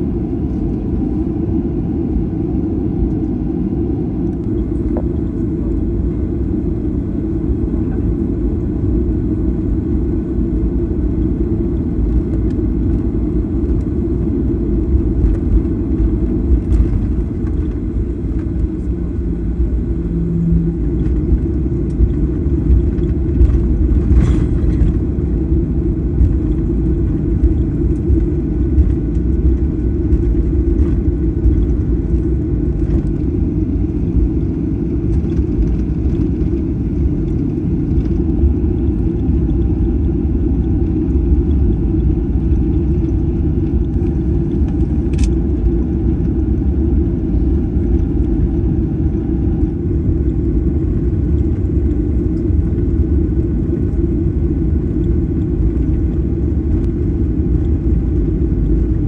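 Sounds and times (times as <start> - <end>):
airplane cabin low rumble: 0.0 - 59.0.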